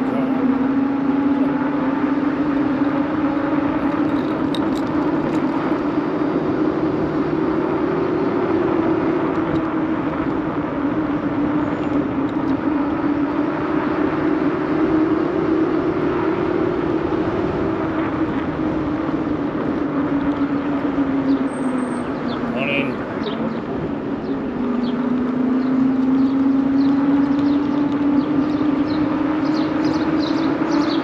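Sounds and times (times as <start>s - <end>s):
bicycle rolling hum: 0.0s - 31.0s.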